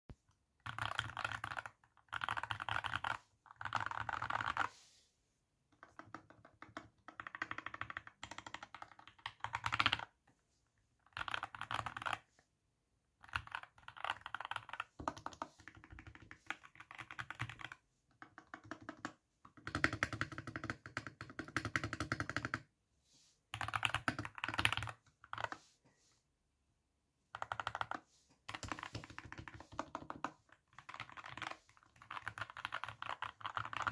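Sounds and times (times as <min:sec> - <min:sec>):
typing on mechanical keyboard: 0:00.6 - 0:04.7, 0:05.8 - 0:10.2, 0:11.0 - 0:12.3, 0:13.2 - 0:22.7, 0:23.5 - 0:25.6, 0:27.3 - 0:33.9.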